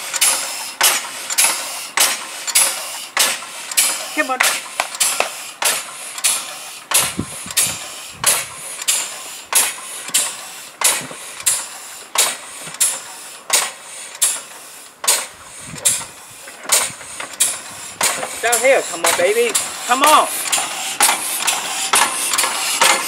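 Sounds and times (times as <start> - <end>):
air exhausting in hissing puffs: 0.0 - 23.0.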